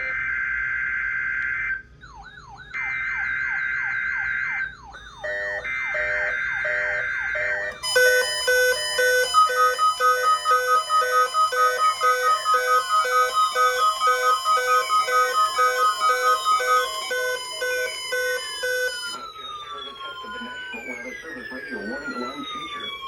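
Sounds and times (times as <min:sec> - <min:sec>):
alarm falling chirp with warble: 0:01.6 - 0:23.0
pulsed alternating beeps: 0:02.0 - 0:23.0.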